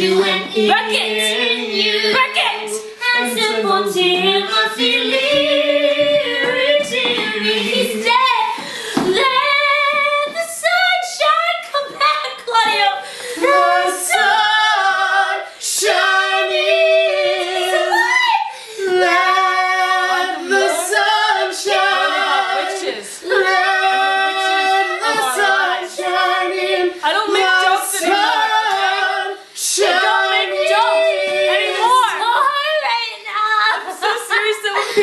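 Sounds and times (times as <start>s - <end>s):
women singing together: 0.0s - 35.0s.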